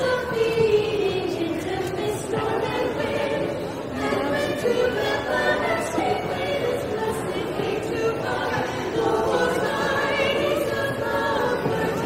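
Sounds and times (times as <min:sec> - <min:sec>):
vocal group singing in harmony: 0:00.0 - 0:12.0.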